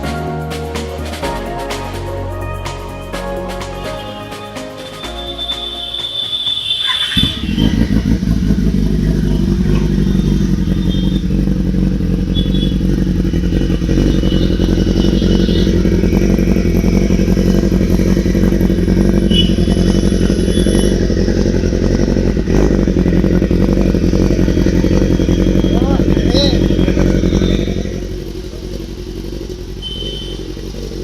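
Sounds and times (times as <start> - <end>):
motorcycle engine idling: 5.2 - 31.0.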